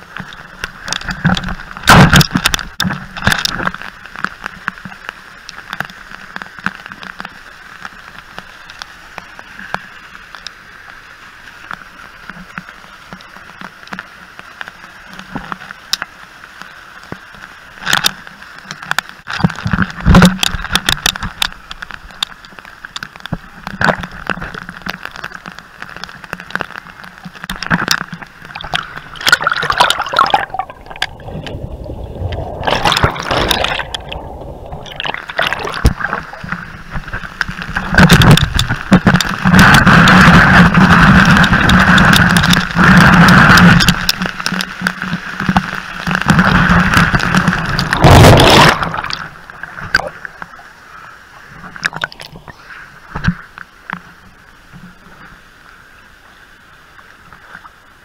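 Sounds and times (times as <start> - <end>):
waterfall water splashing on camera: 0.0 - 58.0.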